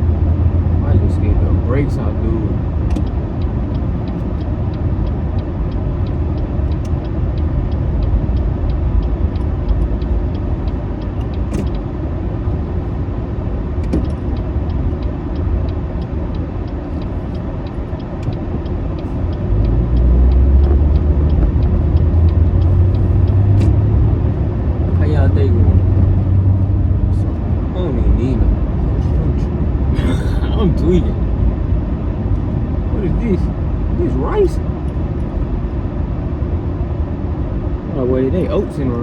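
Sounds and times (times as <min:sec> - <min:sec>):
car engine and tyre rumble: 0:00.0 - 0:39.0
light regular ticking: 0:00.1 - 0:36.5.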